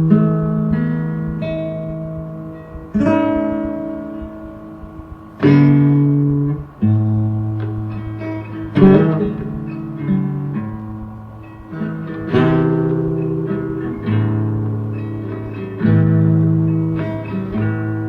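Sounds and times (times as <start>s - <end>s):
blues guitar chords ringing: 0.0s - 18.0s.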